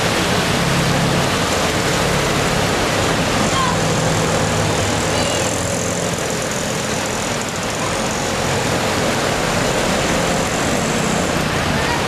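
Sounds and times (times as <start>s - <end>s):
car engines running: 0.0s - 12.0s
water rushing from wheels: 0.0s - 12.0s.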